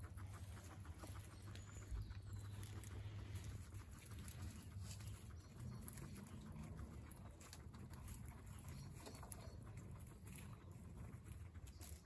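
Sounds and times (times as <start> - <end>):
small ticks and rustles in hay: 0.0 - 12.0
steady low hum: 0.0 - 12.0.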